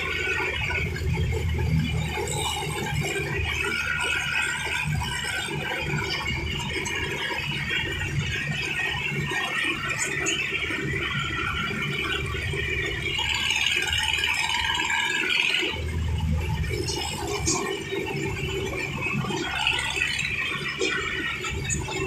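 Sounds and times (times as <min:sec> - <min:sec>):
high-pitched squeal: 0:00.0 - 0:22.0
tractor engine drone: 0:00.0 - 0:22.0.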